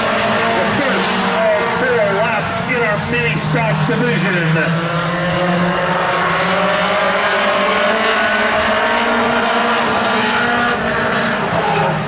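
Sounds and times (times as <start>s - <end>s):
race car engines at high revs: 0.0s - 12.0s.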